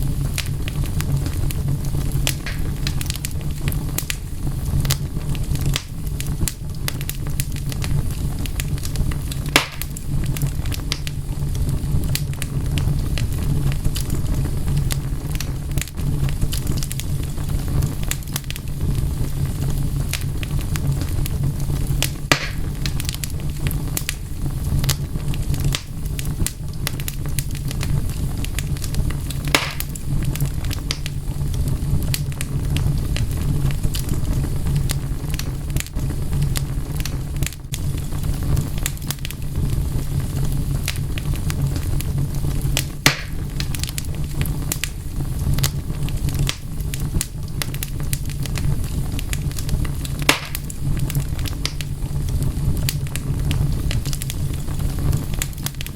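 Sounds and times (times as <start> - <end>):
steady low rumble: 0.0 - 55.9
wood fire crackling: 0.0 - 55.9.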